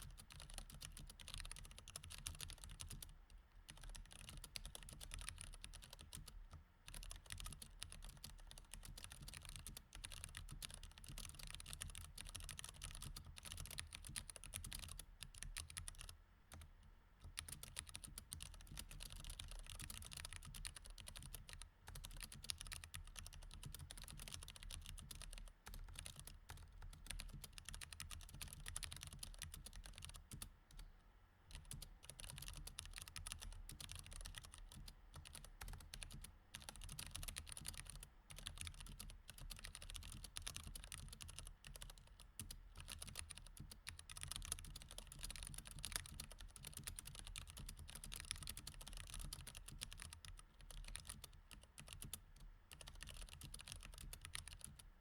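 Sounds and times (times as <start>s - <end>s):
mechanical keyboard typing: 0.1s - 16.6s, 17.2s - 30.8s, 31.5s - 54.8s.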